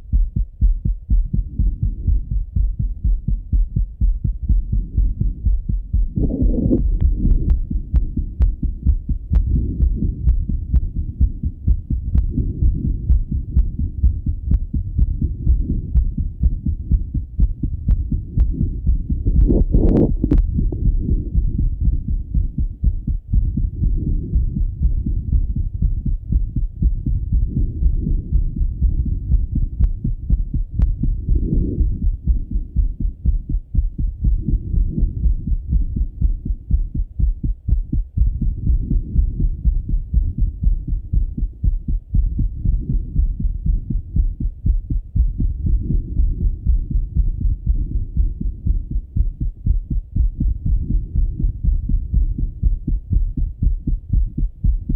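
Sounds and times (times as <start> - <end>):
heartbeat through stethoscope: 0.0 - 54.9.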